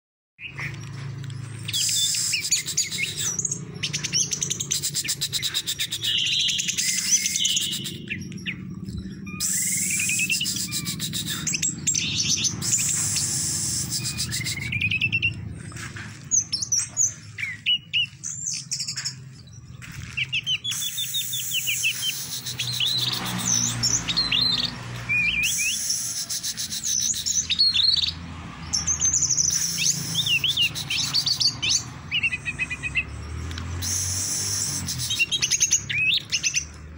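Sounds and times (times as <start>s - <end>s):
thrush singing whistles and trills: 0.4s - 36.9s.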